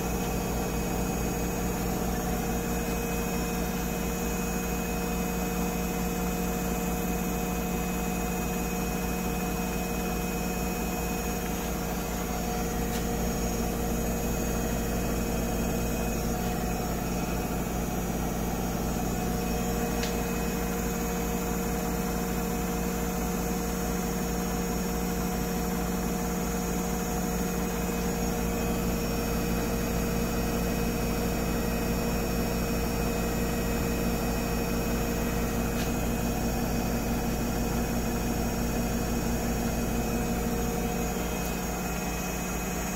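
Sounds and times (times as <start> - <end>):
washing machine spin whine: 0.0 - 42.9.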